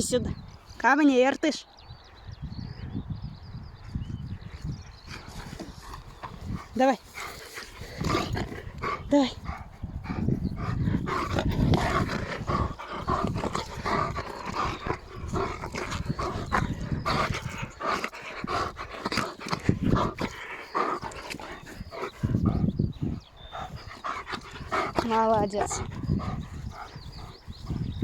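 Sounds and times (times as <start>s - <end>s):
dog panting and growling: 4.8s - 28.0s.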